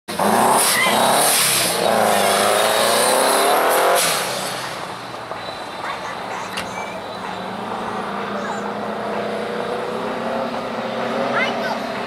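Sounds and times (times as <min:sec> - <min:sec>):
race car engine revving: 0:00.1 - 0:05.4, 0:06.1 - 0:12.0.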